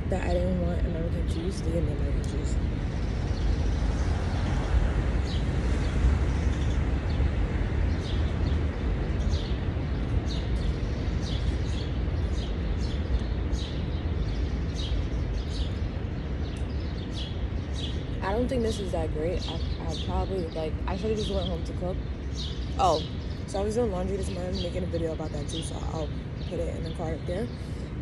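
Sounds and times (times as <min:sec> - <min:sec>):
traffic rumble: 0:00.0 - 0:28.0
small birds chirping: 0:00.1 - 0:28.0.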